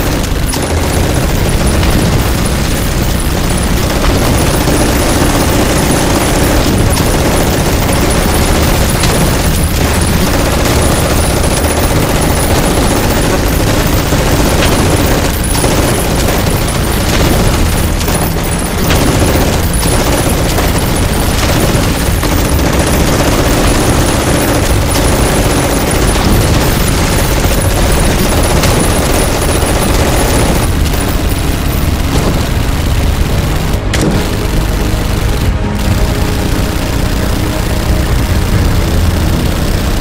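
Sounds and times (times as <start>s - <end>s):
music: 0.0s - 40.0s
rapid gunfire: 0.0s - 40.0s.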